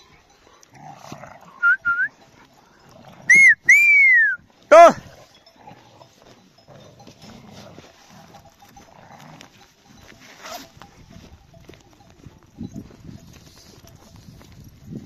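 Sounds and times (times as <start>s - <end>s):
dogs and flock moving about: 0.0s - 3.5s, 4.4s - 15.0s.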